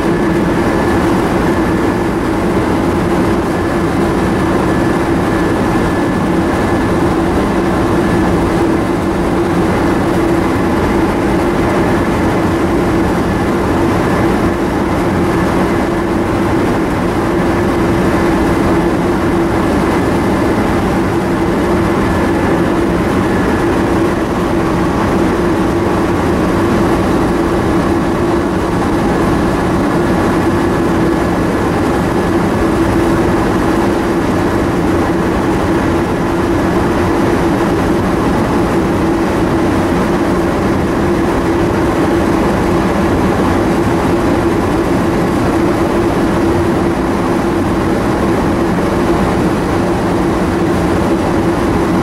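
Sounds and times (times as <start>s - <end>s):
ventilation fans droning: 0.0s - 52.0s.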